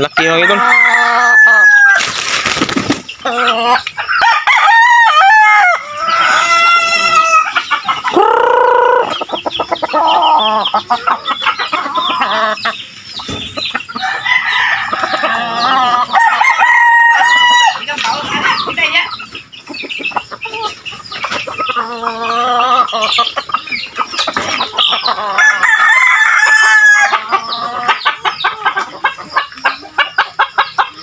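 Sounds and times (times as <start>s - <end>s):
hens clucking: 0.0s - 31.0s
roosters crowing: 0.0s - 31.0s.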